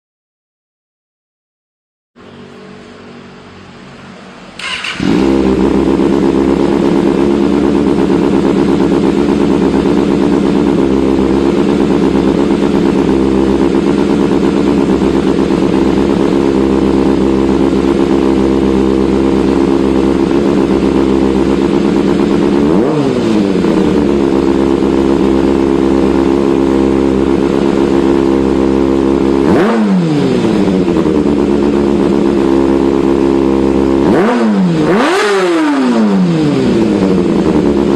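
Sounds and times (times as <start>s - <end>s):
motorcycle engine running: 4.6s - 37.9s.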